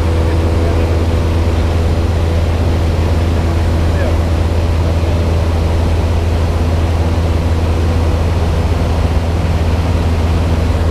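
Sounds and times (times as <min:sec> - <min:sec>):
light aircraft engine droning: 0:00.0 - 0:10.9.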